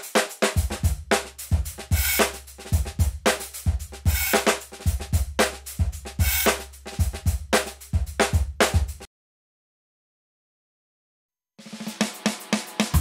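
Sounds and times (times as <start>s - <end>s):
drum kit groove: 0.0s - 9.1s, 11.6s - 13.0s.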